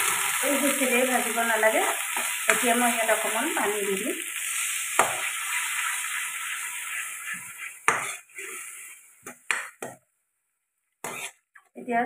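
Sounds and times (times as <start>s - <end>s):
paste sizzling in a pan: 0.0s - 9.8s, 11.0s - 11.4s.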